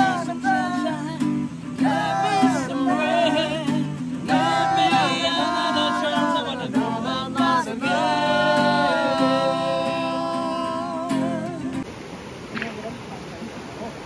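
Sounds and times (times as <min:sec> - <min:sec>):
young men singing together: 0:00.0 - 0:11.8
strummed acoustic guitar: 0:00.0 - 0:11.9.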